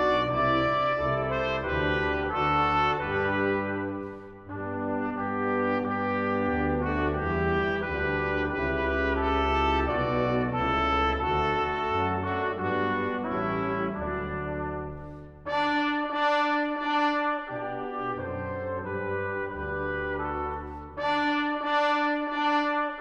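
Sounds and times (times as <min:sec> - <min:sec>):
brass ensemble playing chords: 0:00.0 - 0:23.0.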